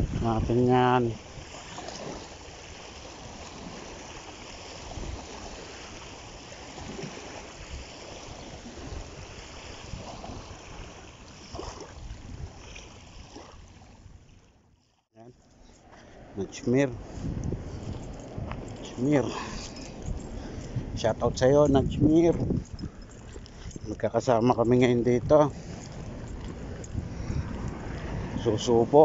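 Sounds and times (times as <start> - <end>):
small waves washing on shore: 0.0 - 29.0.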